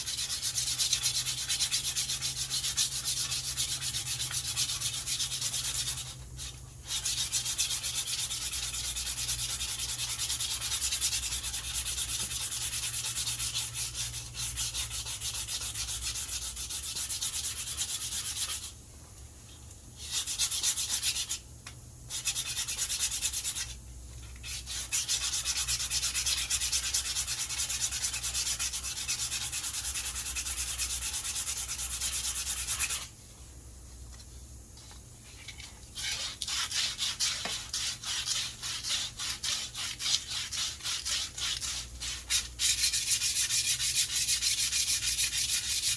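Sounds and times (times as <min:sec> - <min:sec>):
sandpaper rubbing on wood: 0:00.0 - 0:18.7, 0:20.0 - 0:21.4, 0:22.1 - 0:23.8, 0:24.4 - 0:33.1, 0:36.0 - 0:45.9.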